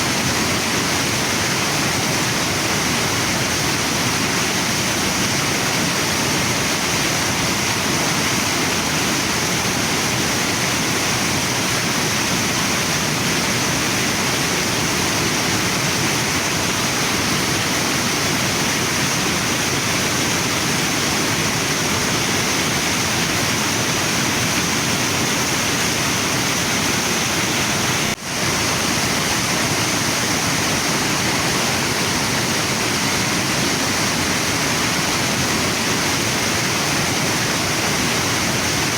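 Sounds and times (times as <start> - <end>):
waterfall and river rushing: 0.0 - 38.9.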